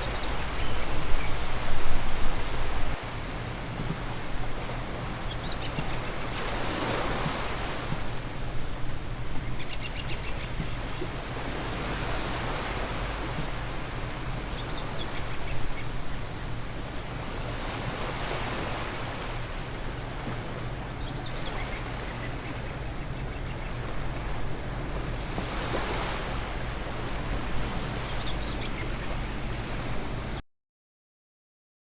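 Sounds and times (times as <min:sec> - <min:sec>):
ocean waves washing in: 0:00.0 - 0:30.4.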